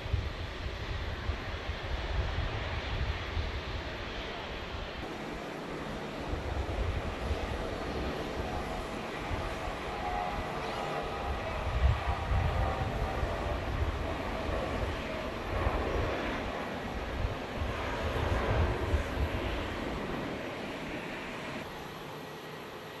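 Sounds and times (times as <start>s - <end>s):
jet engine rumble: 0.0s - 23.0s
faint steady tones: 4.2s - 23.0s.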